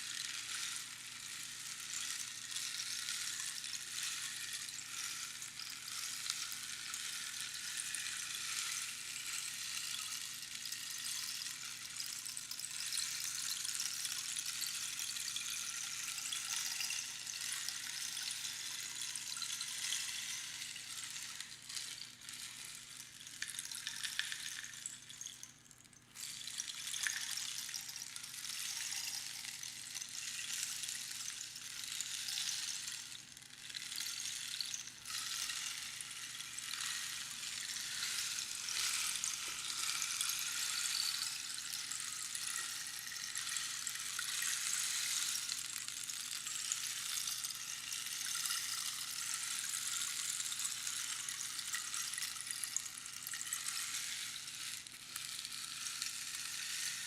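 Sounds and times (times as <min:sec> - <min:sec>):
rainstick pebbles trickling: 0:00.0 - 0:57.0.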